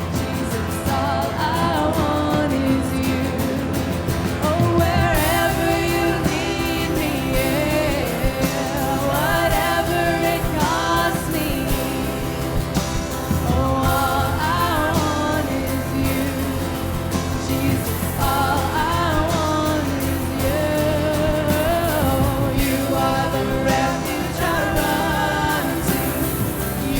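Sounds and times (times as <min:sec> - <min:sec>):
live band playing: 0:00.0 - 0:26.9
people singing worship song: 0:00.0 - 0:26.9.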